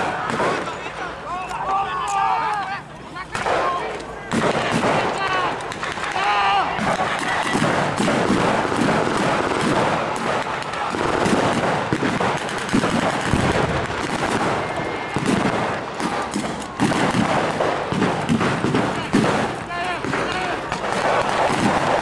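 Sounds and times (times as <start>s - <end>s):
rifles and machine guns firing: 3.3s - 22.0s.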